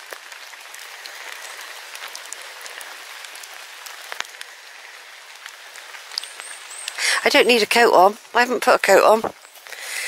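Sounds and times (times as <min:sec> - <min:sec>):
rain pattering on leaves: 0:00.0 - 0:10.0.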